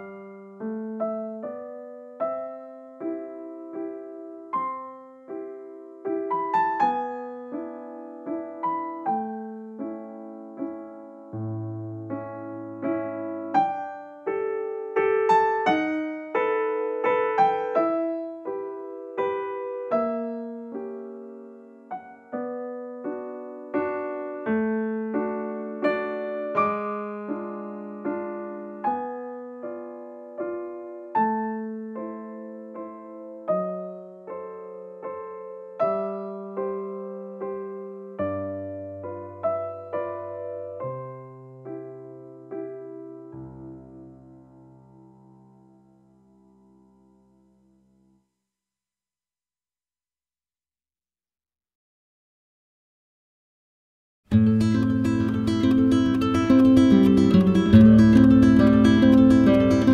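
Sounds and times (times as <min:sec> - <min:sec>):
solo piano music: 0:00.0 - 0:48.3, 0:54.3 - 0:59.9.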